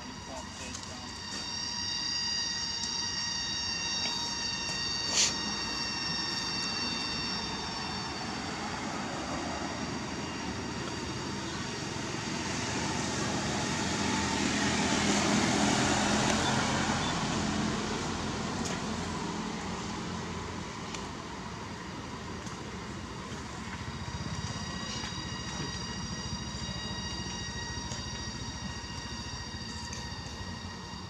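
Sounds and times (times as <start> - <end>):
steady traffic noise: 0.0 - 31.0
motorbike passing: 4.4 - 31.0.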